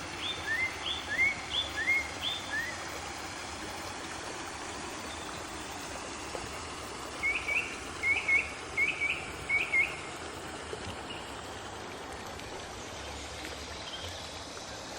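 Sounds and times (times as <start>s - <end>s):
flowing water: 0.0s - 14.9s.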